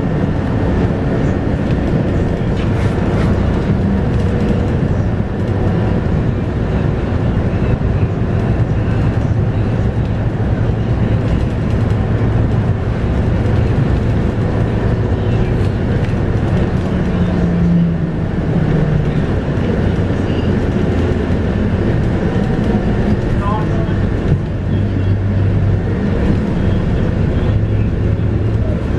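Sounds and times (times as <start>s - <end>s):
bus diesel engine running: 0.0s - 28.9s
road noise: 0.0s - 28.9s.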